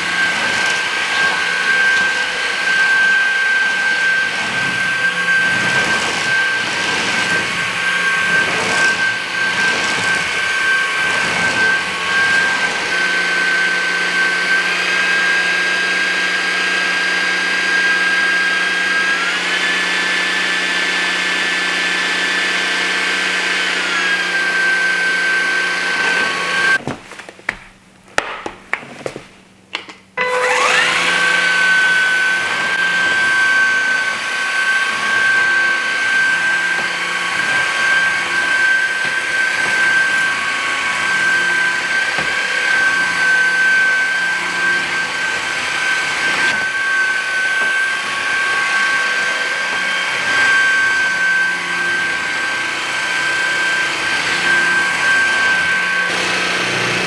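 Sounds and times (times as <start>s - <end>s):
vacuum motor whining: 0.0s - 26.8s, 30.2s - 57.0s.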